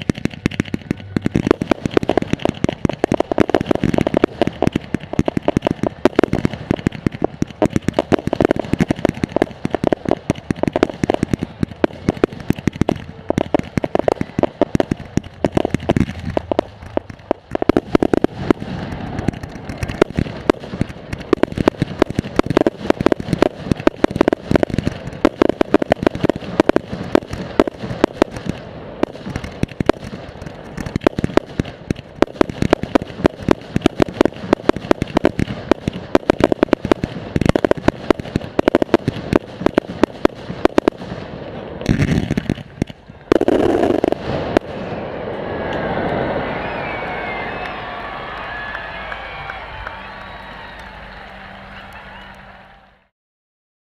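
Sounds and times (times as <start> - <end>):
fireworks launching and bursting: 0.0 - 52.8
fireworks rushing: 0.0 - 53.1.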